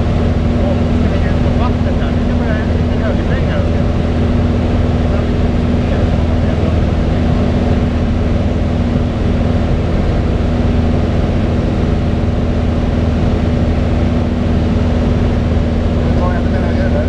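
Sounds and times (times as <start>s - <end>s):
aircraft engine droning in cabin: 0.0s - 17.0s.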